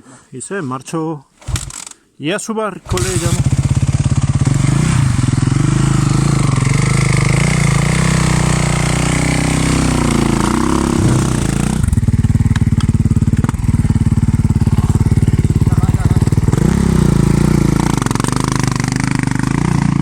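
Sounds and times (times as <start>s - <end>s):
dirt bike engine revving and idling: 1.4s - 2.0s, 2.8s - 20.0s.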